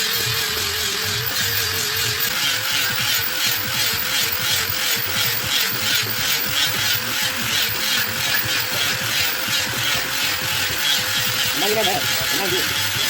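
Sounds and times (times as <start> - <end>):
rhythmic rasping: 0.0 - 13.0
small motor humming: 0.0 - 13.0.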